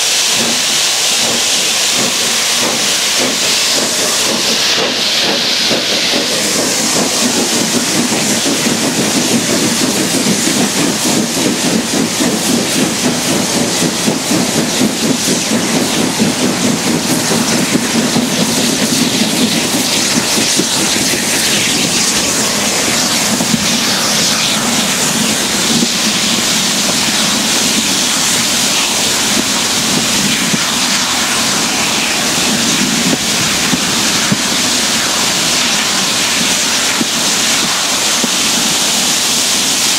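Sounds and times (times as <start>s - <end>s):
steam hiss: 0.0s - 39.9s
steam locomotive chuffing: 0.0s - 39.9s
train running on rails: 0.0s - 39.9s.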